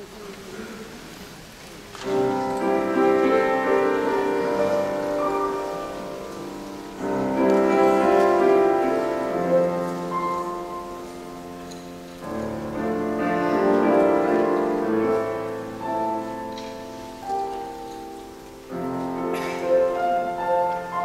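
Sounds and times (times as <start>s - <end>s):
grand piano chords: 1.9s - 21.0s.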